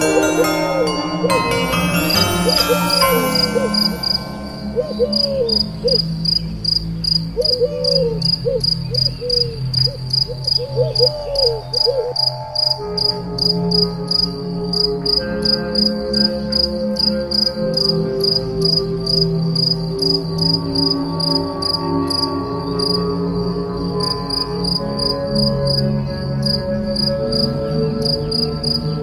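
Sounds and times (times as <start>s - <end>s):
background music: 0.0s - 8.6s, 9.6s - 29.0s
cricket chirping: 4.6s - 29.0s.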